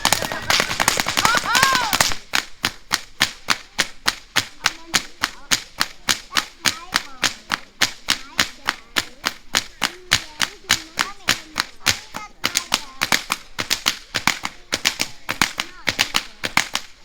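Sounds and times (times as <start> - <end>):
whip cracking: 0.0 - 17.0.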